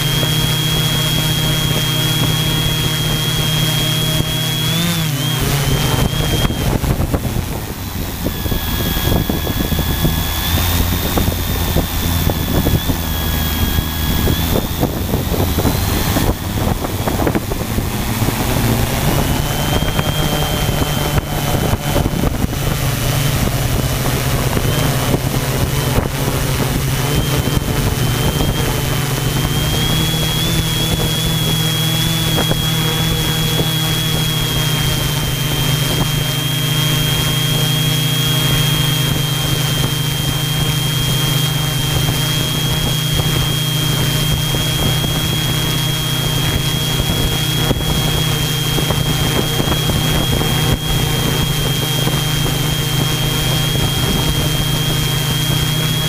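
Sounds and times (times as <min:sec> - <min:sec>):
drone propeller hum: 0:00.0 - 0:56.0
high motor whine: 0:00.0 - 0:56.0.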